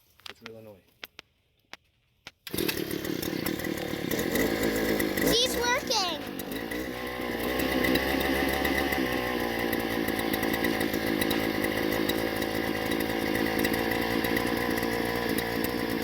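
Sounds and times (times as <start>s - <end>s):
earth auger engine running: 2.5s - 16.0s.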